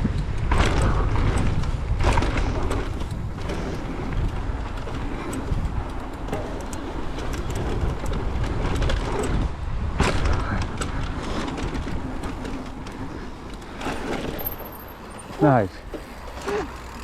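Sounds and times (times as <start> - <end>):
wind buffeting microphone: 0.0 - 15.2
bike frame and chain rattling: 0.0 - 17.0
tyres on dirt: 0.0 - 17.0.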